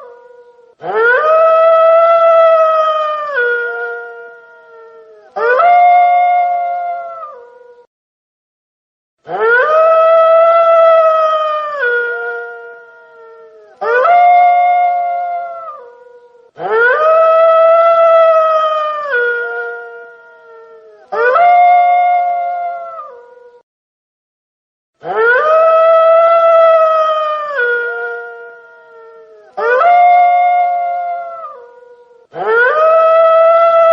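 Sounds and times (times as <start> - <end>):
wolf howling: 0.0 - 7.9, 9.3 - 23.6, 25.0 - 33.9.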